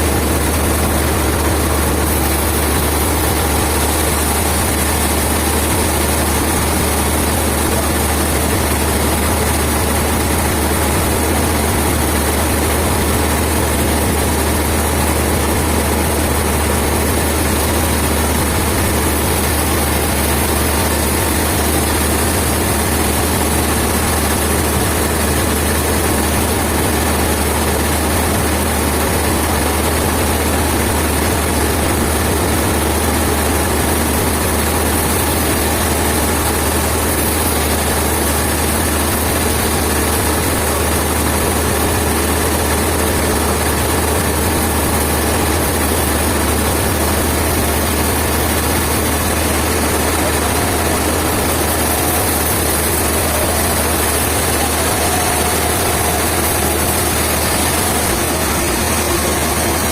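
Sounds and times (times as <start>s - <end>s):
machinery engine humming: 0.0s - 59.9s.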